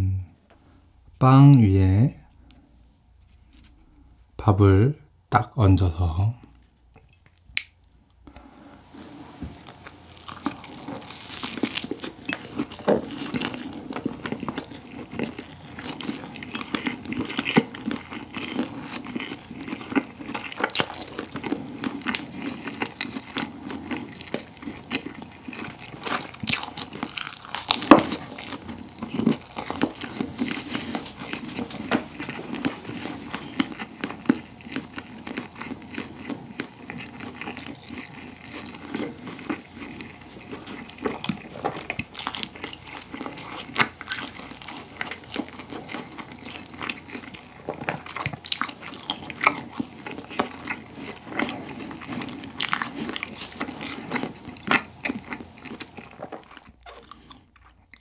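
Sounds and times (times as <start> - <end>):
crusty bread biting and chewing: 9.1 - 58.0.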